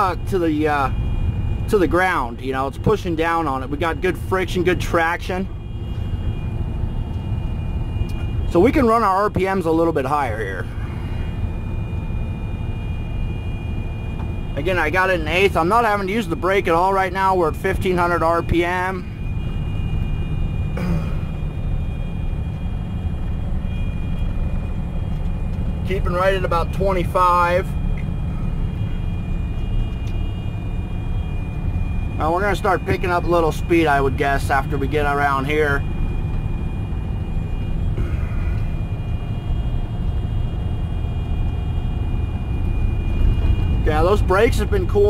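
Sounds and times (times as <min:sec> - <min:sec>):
road noise: 0:00.0 - 0:45.0
truck engine running: 0:00.0 - 0:45.0.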